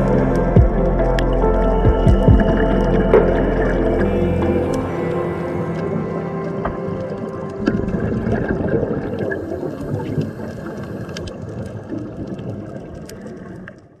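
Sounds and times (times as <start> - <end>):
low underwater water noise: 0.0 - 14.0.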